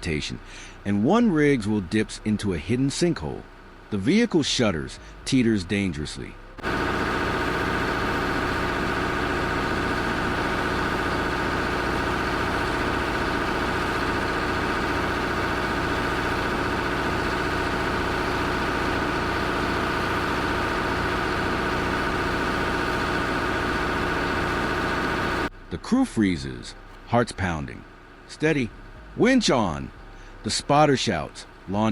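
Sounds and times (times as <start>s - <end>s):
vehicle engine running: 6.1s - 31.9s.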